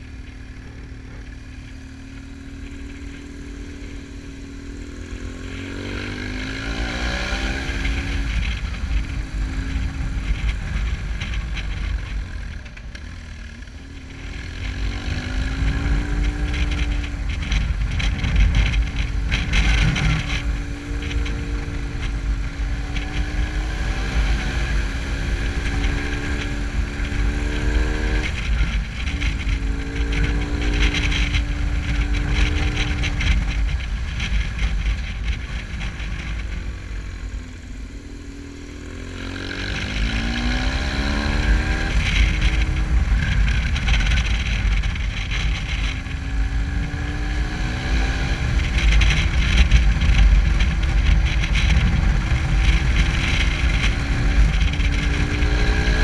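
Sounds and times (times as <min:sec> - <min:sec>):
motorcycle engine running: 0:00.0 - 0:56.0
wind rumble on microphone: 0:00.0 - 0:56.0.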